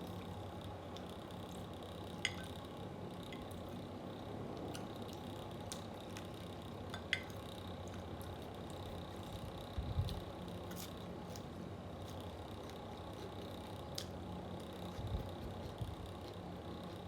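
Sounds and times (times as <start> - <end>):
quiet chewing: 0.0 - 3.8, 4.5 - 17.0
electric fan humming: 0.0 - 17.0.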